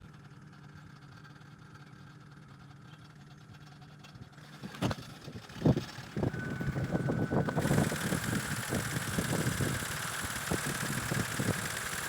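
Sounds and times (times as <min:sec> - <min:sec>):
car engine idling roughly: 0:00.9 - 0:12.0.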